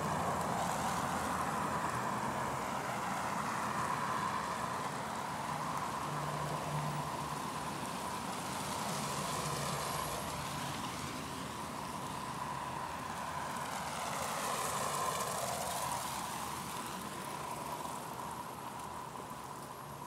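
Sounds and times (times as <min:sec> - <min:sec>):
vehicle passing on snowy street: 0:00.0 - 0:20.0.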